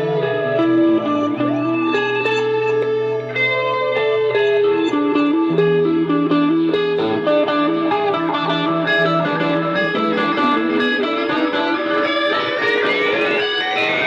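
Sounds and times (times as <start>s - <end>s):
plucked-string melody: 0.0s - 14.0s.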